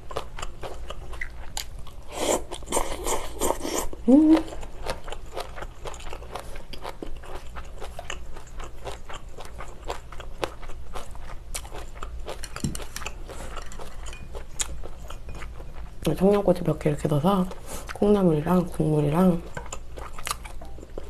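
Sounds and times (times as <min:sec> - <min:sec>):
wet chewing and crunching: 0:00.0 - 0:18.3, 0:19.3 - 0:21.0.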